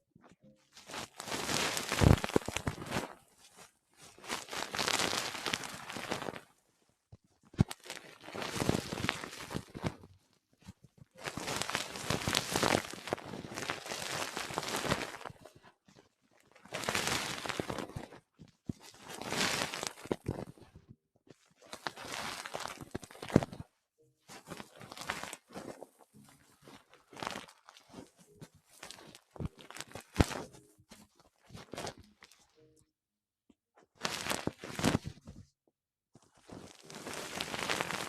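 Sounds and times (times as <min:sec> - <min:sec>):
rustling and crinkling: 0:00.2 - 0:32.9, 0:33.8 - 0:35.6, 0:36.2 - 0:38.0.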